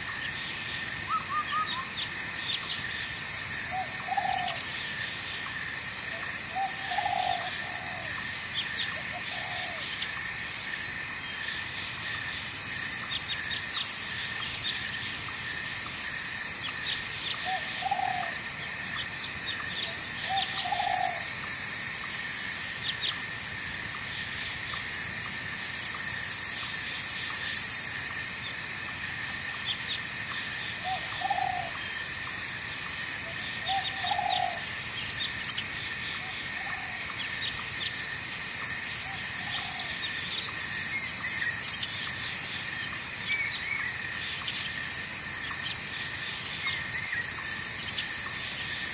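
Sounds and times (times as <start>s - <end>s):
high shrill insect buzz: 0.0s - 48.9s
insect chorus: 0.0s - 48.9s.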